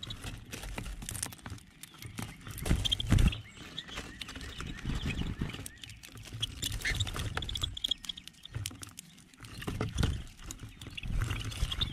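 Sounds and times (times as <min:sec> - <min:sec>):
beaks tapping on feeder: 0:00.0 - 0:11.9
faint high bird chirps: 0:01.7 - 0:11.9.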